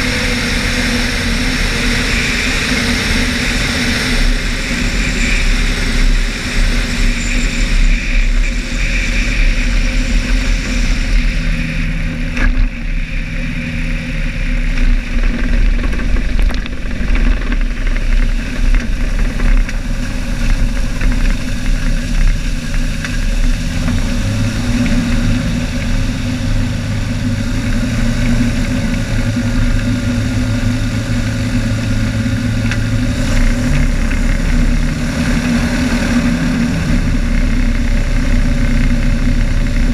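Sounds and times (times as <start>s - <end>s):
floatplane engine at low power: 0.0s - 39.9s.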